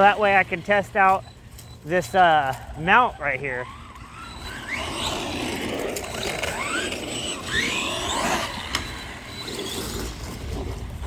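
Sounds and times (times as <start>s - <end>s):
electric motor whining: 0.0s - 11.0s
gear and drivetrain chatter: 0.0s - 11.0s.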